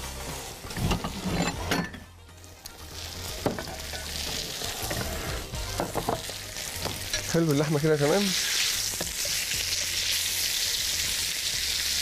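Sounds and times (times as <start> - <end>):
meat sizzling in a skillet: 0.0 - 0.8, 2.4 - 12.0.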